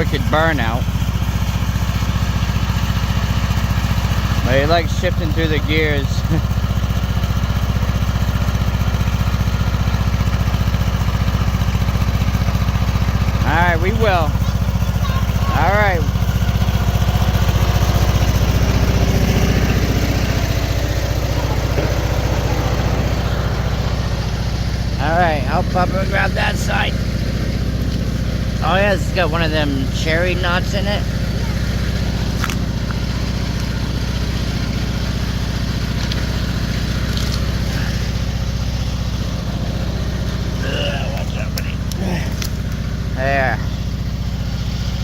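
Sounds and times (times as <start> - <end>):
riding lawn mower engine: 0.0 - 45.0.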